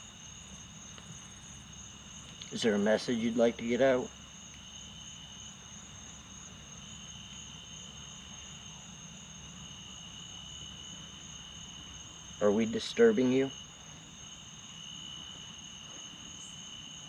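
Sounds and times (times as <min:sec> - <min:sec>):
faint low hum: 0:00.0 - 0:17.0
night insects trilling: 0:00.0 - 0:17.0.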